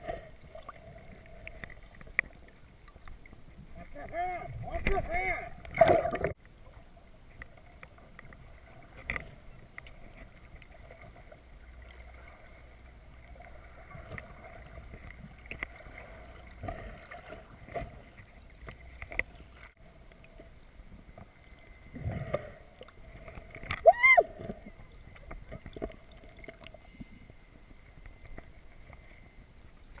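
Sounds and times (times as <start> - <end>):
low rumble of water movement: 0.0 - 30.0
muffled underwater water noise: 0.0 - 30.0
faint underwater clicks: 0.1 - 4.1, 4.7 - 12.3, 13.4 - 30.0.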